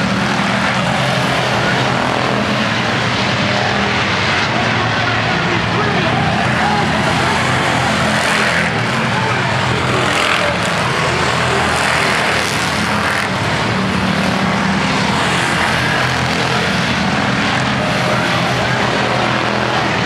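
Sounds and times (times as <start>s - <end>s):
race car engines droning: 0.0s - 20.0s.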